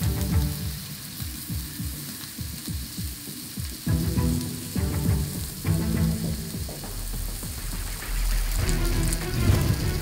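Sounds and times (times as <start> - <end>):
background music with low beats: 0.0 - 10.0
meat sizzling in a pan: 0.0 - 10.0.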